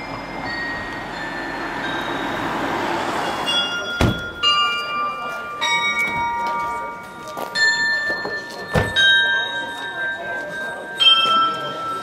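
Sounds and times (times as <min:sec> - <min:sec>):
cast bells ringing: 0:00.0 - 0:12.0.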